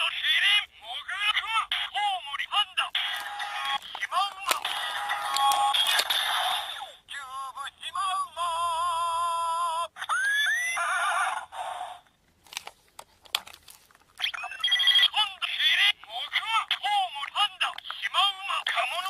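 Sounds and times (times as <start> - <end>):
toy speaker animal sound effects: 0.0 - 11.6, 14.2 - 19.0.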